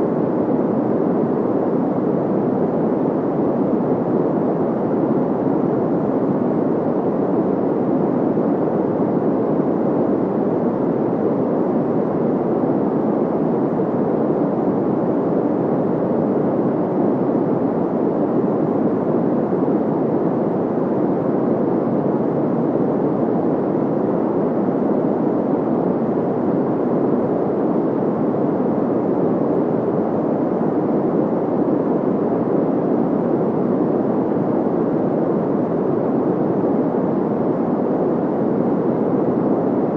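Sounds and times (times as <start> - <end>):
muffled white noise: 0.0 - 39.9.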